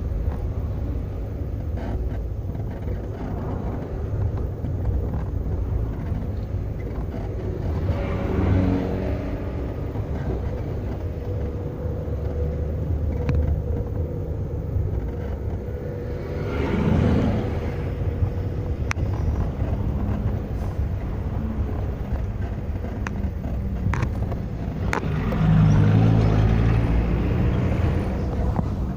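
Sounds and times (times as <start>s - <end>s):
car engine rumble: 0.0s - 28.9s.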